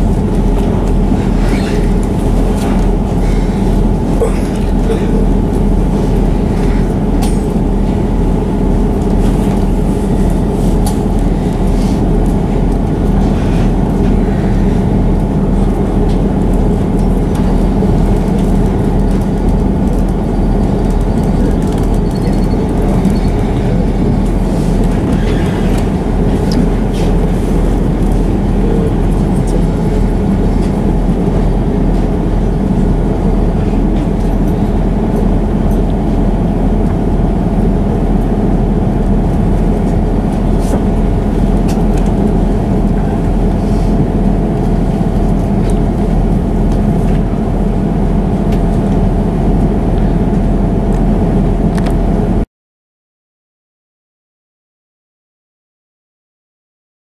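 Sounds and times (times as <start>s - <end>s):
train engine drone from inside: 0.0s - 52.4s.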